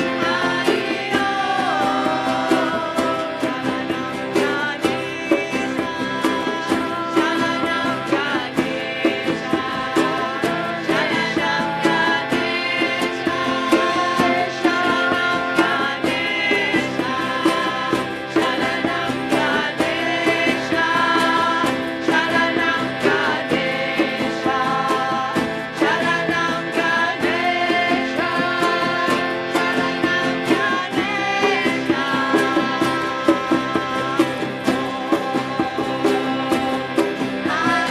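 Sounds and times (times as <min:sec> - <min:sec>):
person singing: 0:00.0 - 0:37.9
plucked string instruments: 0:00.0 - 0:37.9.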